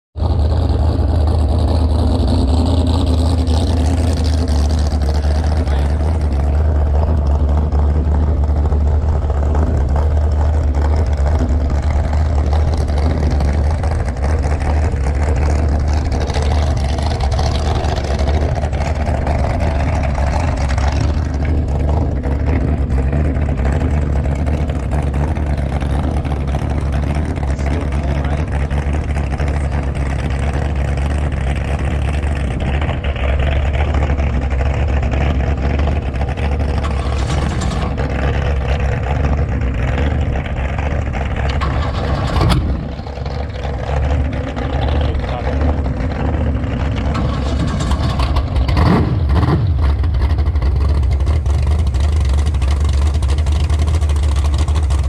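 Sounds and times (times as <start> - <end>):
motorboat engine rumbling: 0.1 - 55.0.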